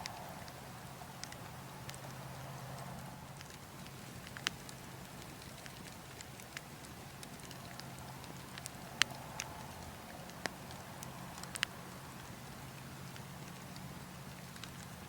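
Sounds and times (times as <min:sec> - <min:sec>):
burning logs crackling and popping: 0:00.0 - 0:15.0.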